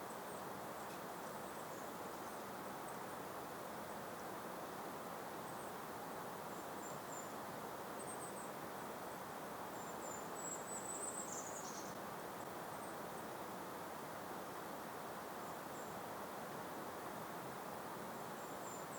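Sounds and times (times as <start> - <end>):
gentle breeze rushing: 0.0 - 18.9.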